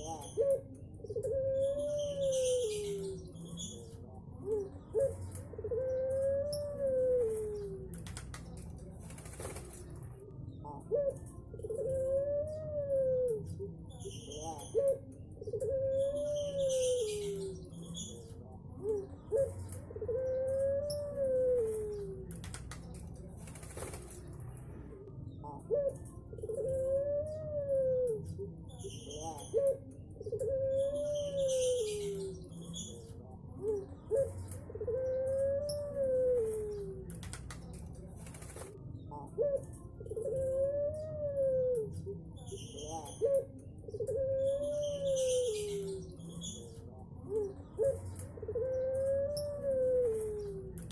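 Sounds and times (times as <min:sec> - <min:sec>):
dove cooing: 0:00.0 - 0:08.3, 0:09.2 - 0:22.7, 0:23.4 - 0:37.4, 0:38.0 - 0:50.9.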